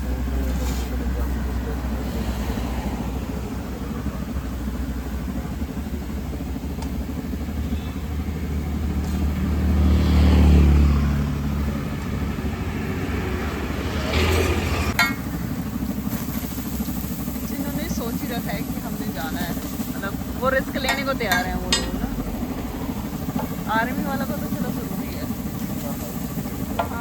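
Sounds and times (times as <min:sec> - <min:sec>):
motor vehicle passing: 0:00.0 - 0:06.0, 0:07.7 - 0:27.0
road traffic rumble: 0:00.0 - 0:27.0.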